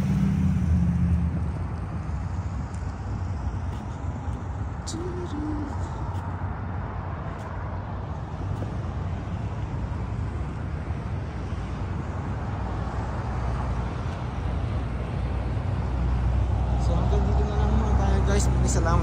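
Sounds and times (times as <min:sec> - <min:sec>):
vehicle rumble and road noise: 0:00.0 - 0:19.0.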